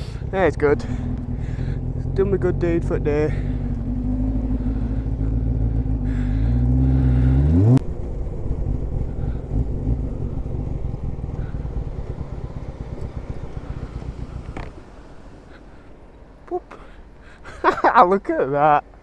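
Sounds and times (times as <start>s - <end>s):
motorcycle engine accelerating: 0.0s - 16.0s
rough wind rumble: 0.0s - 17.7s.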